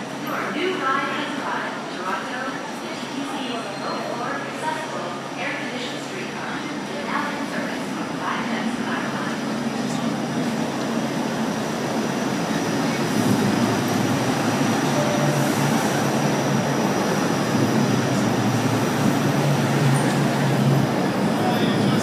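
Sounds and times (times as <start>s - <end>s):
streetcar rumbling past: 4.0s - 22.0s.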